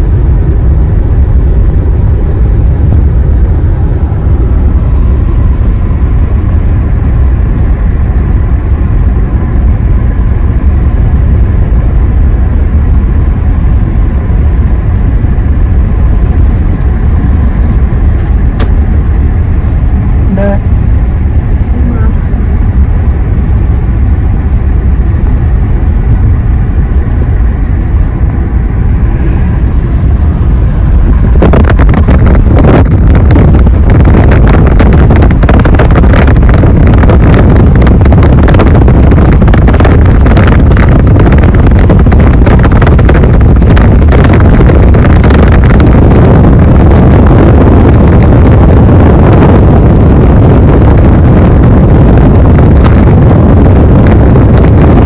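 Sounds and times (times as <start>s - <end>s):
road and engine rumble: 0.0s - 55.0s
wind buffeting microphone: 0.0s - 55.0s.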